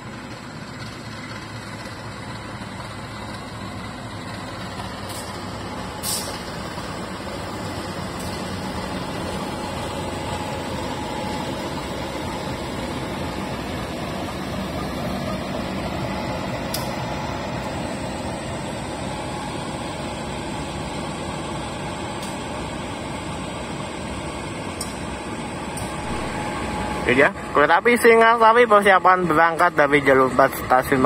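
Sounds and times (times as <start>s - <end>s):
locomotive engine idling: 0.0s - 31.0s.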